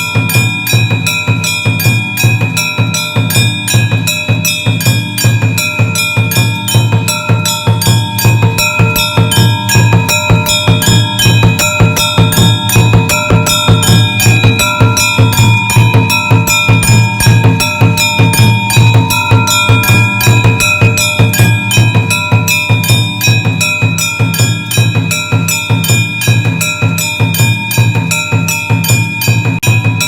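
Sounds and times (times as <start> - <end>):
bells ringing: 0.0 - 30.0
drums beating fast: 0.0 - 30.0.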